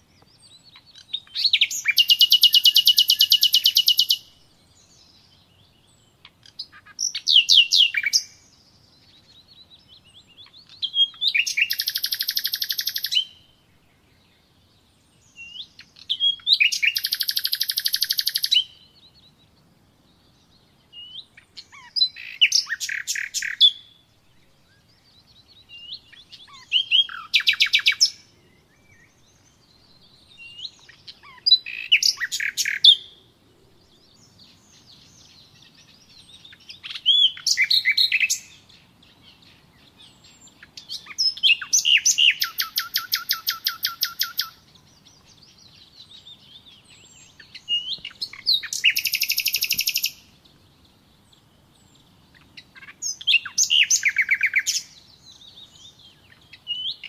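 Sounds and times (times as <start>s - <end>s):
songbird trilling: 0.0s - 13.6s, 15.2s - 19.3s, 20.9s - 24.0s, 24.7s - 33.2s, 34.0s - 57.0s.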